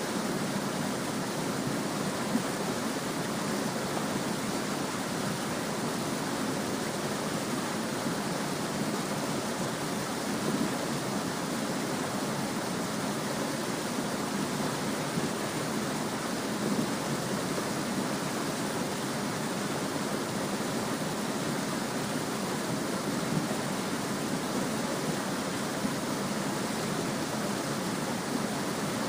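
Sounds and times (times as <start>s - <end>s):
brook babbling: 0.0s - 29.0s.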